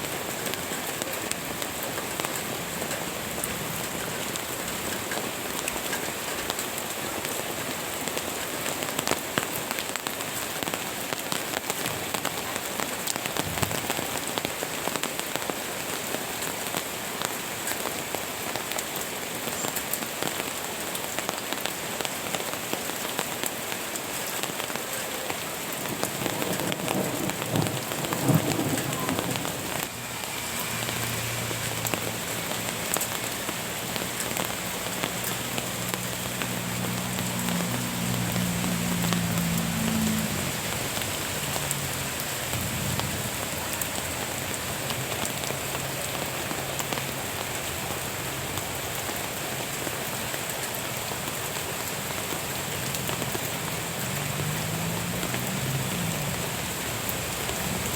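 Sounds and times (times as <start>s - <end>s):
steady rain with drops ticking: 0.0s - 57.9s.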